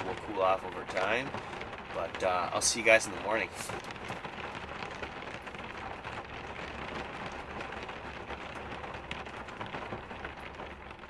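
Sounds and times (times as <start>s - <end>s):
rain on a vehicle roof: 0.0s - 11.0s.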